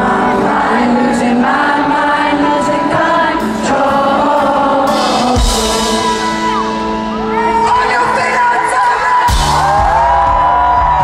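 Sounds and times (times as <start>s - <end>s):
lead singer: 0.0s - 11.0s
live rock band playing: 0.0s - 11.0s.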